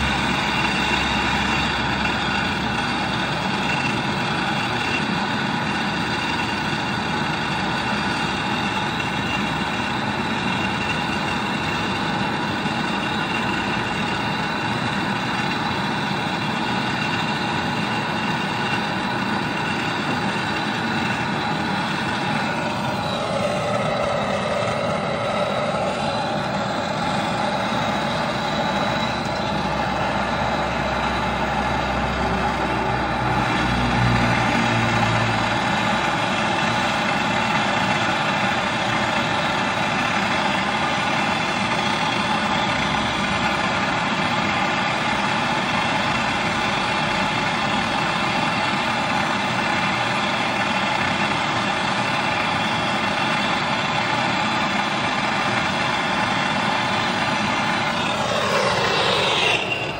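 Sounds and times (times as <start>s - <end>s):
machine humming: 0.0s - 44.2s, 52.4s - 59.9s.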